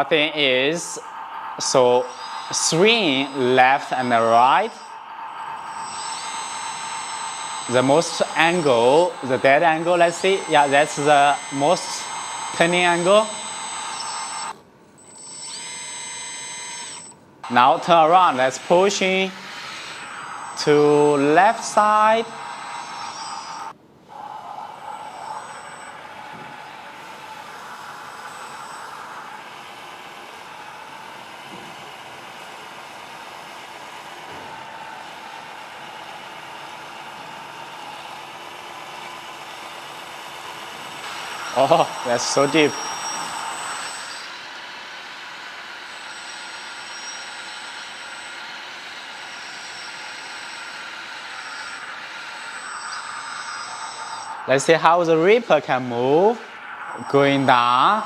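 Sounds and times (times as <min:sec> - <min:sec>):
toy bulldozer hydraulic whine: 0:00.0 - 0:58.0.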